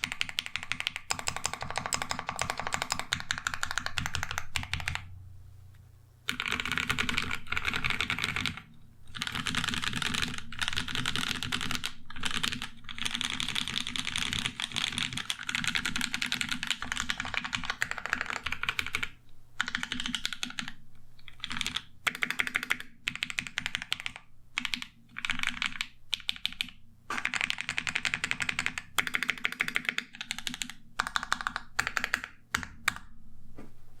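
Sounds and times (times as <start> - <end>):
mechanical keyboard typing: 0.0 - 5.1, 6.3 - 33.1.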